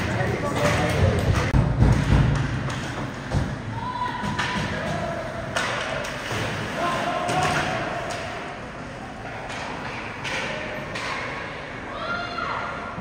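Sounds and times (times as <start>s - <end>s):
hockey sticks and puck clacking: 0.0s - 11.6s.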